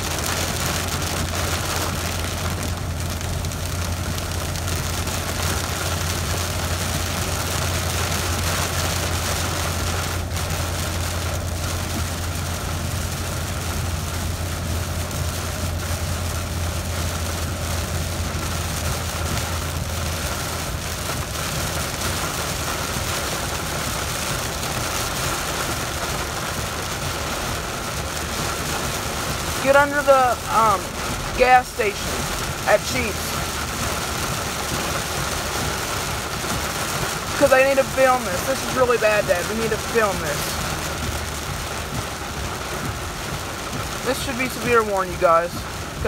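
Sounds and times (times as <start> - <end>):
engine and tyres droning: 0.0 - 46.0
heavy rain on vehicle roof: 0.0 - 46.0.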